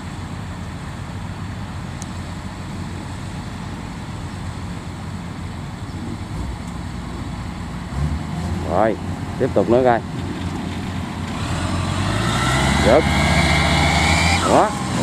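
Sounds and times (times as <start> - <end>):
combine harvester diesel engine running: 0.0 - 15.0.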